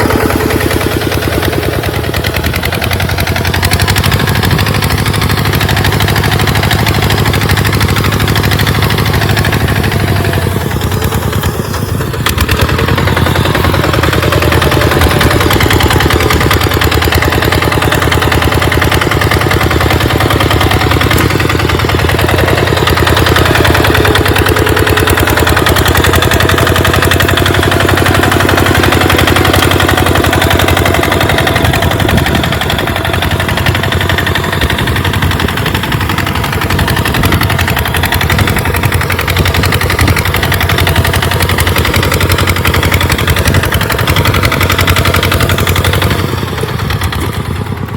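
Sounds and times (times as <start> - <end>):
tractor engine chugging: 0.0 - 47.9.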